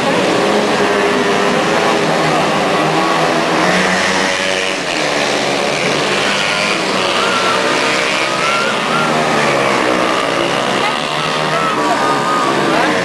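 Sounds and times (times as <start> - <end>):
small motorcycle engines revving: 0.0 - 13.0.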